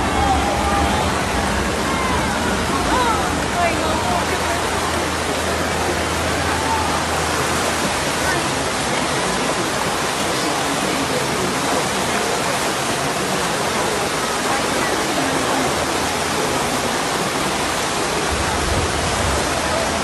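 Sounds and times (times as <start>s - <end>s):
flood water rushing: 0.0s - 20.0s.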